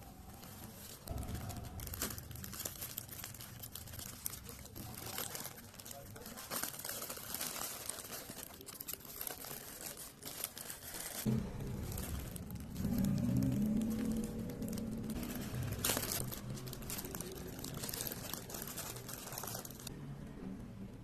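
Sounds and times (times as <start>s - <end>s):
plastic bag rustling: 0.0s - 19.9s
plastic mailer bag tearing: 0.0s - 19.9s.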